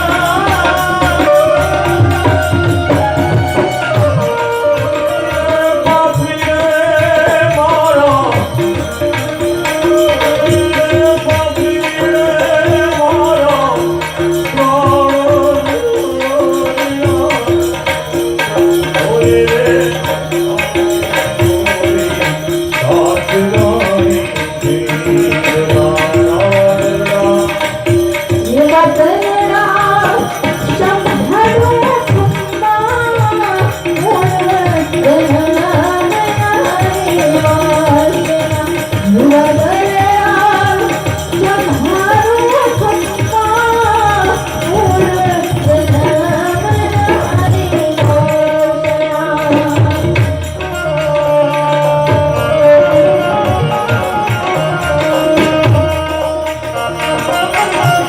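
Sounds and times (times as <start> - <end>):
person singing: 0.0 - 58.0
tabla: 0.0 - 58.0.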